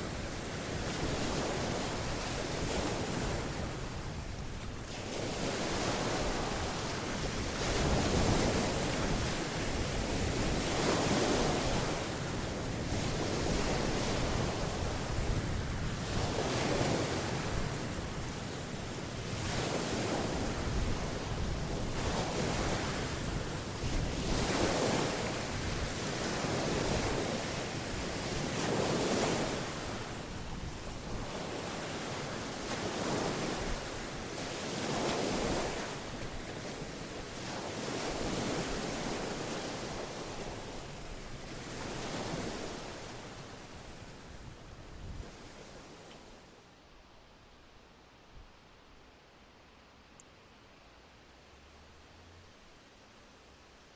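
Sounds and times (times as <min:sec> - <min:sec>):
ocean surf breaking on shore: 0:00.0 - 0:46.7.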